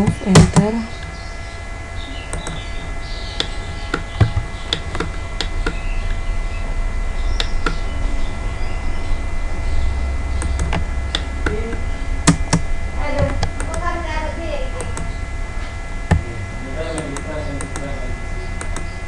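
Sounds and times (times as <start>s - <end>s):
faint high whine: 0.0s - 19.0s
low electrical hum: 0.0s - 19.0s.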